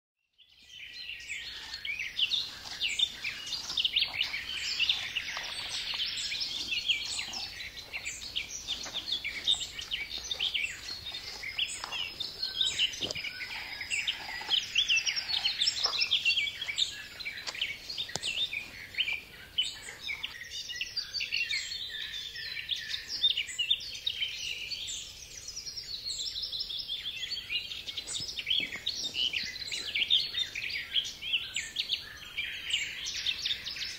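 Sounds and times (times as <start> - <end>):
songbirds chirping and trilling: 0.2 - 33.9.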